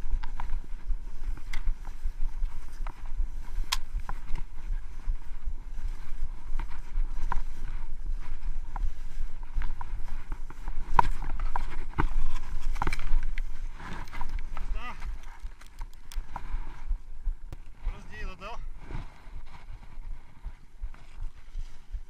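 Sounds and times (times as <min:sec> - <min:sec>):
skis running over snow: 0:00.0 - 0:16.9, 0:17.8 - 0:22.0
wind rumble on microphone: 0:00.0 - 0:22.0.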